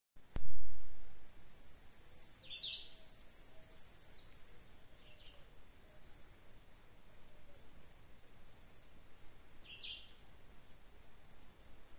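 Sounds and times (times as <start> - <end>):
small birds chirping: 0.4 - 10.3, 10.9 - 11.9.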